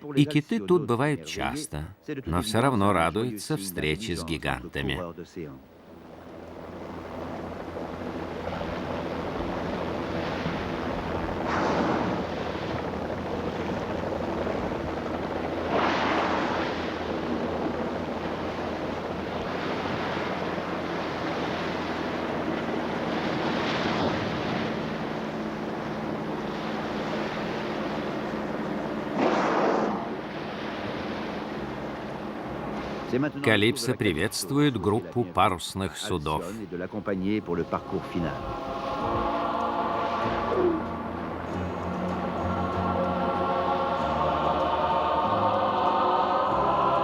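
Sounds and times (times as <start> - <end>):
low hum: 0.0 - 47.0
waves washing: 0.0 - 47.0.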